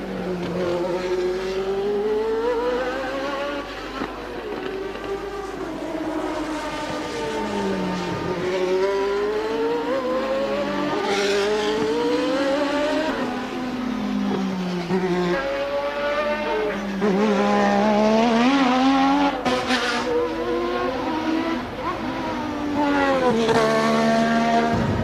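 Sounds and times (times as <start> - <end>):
racing car engine: 0.0 - 25.0.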